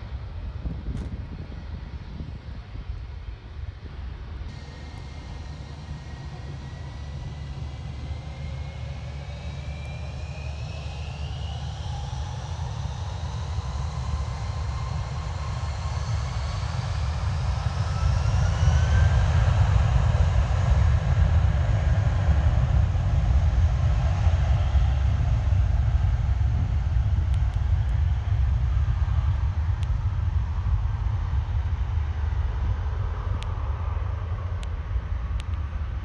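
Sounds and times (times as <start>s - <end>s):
jet engines spooling up: 4.5s - 36.0s.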